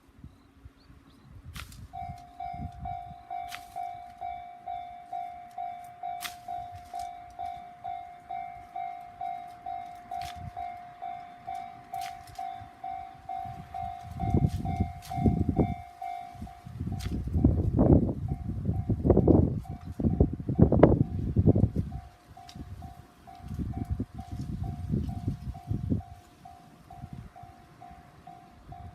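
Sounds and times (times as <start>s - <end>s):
train wheels rumbling: 1.8s - 28.9s.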